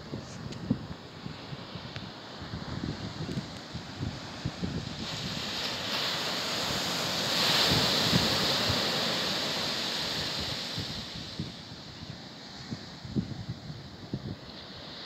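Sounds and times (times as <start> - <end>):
surf breaking on a beach: 0.0 - 15.0
wind buffeting the microphone: 0.0 - 15.0.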